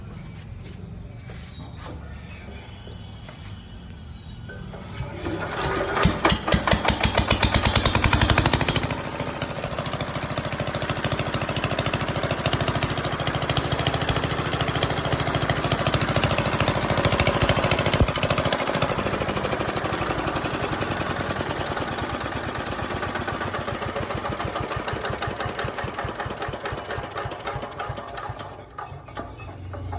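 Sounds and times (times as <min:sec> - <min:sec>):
small generator engine running: 0:04.7 - 0:29.9.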